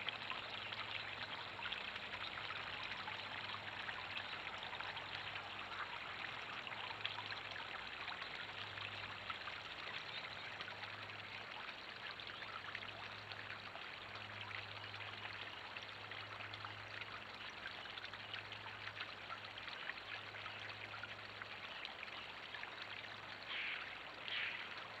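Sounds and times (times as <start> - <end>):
waterfall splashing into pond: 0.0 - 25.0.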